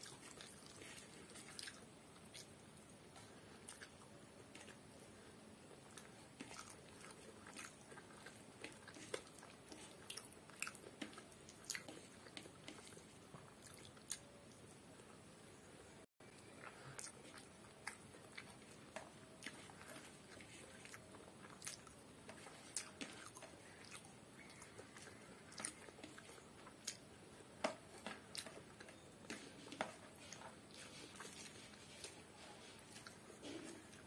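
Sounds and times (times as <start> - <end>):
chewing food: 0.0 - 14.8, 16.2 - 34.0.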